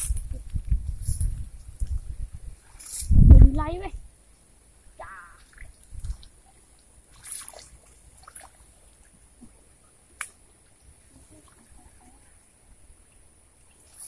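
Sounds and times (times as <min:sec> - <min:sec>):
water splashing and trickling: 0:00.0 - 0:03.9, 0:04.9 - 0:14.0
faint high hiss: 0:00.0 - 0:14.0.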